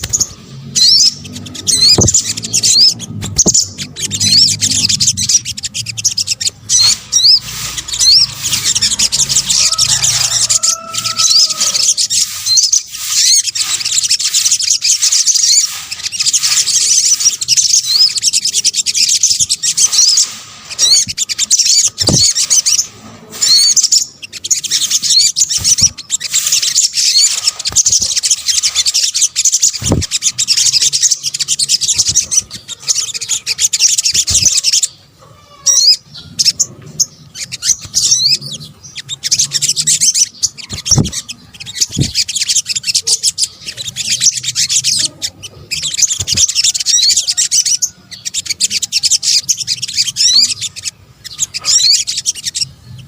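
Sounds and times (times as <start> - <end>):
birds chirping and trilling: 0.0 - 53.0.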